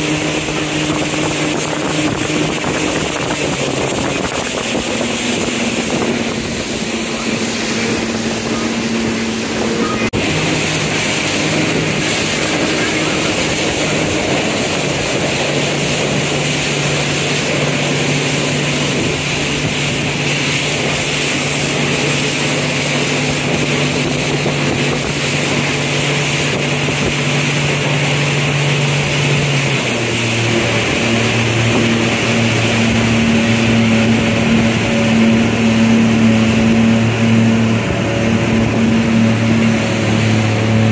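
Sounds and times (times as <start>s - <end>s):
boat engine drone: 0.0s - 40.9s
rushing water: 0.0s - 40.9s
wind: 0.0s - 40.9s.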